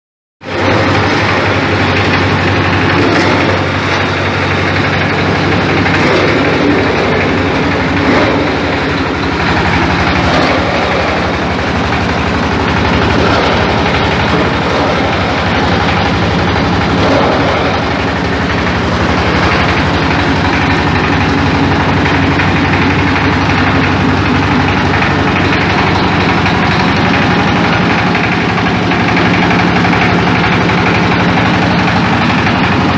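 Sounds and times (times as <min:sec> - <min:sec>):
diesel engine running: 0:00.4 - 0:32.9.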